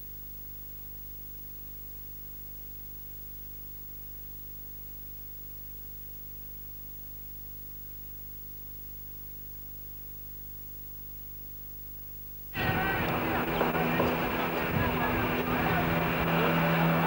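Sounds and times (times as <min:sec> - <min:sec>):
low buzzy electrical hum and hiss: 0:00.0 - 0:17.0.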